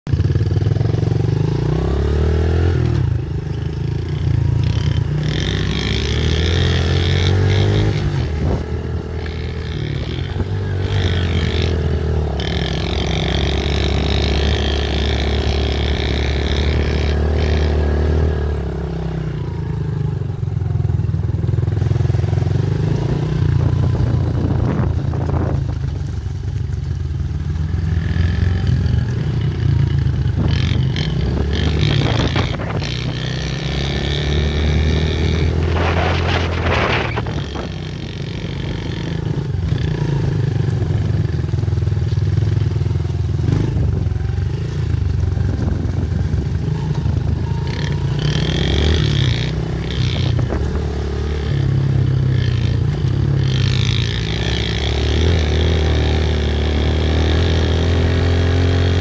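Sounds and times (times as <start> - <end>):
small motorbike engine: 0.1 - 59.0.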